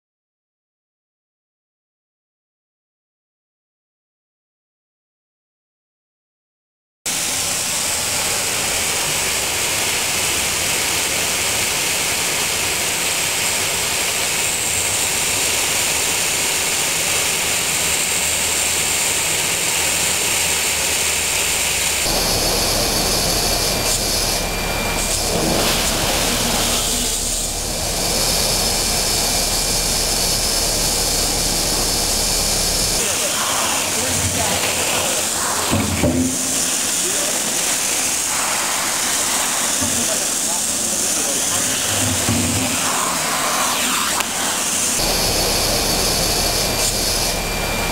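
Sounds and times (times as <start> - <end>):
water vacuum cleaner air rush: 7.1 - 47.9.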